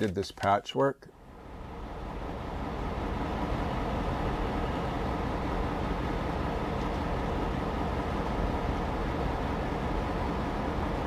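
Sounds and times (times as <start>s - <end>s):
low machine noise: 0.0s - 11.0s.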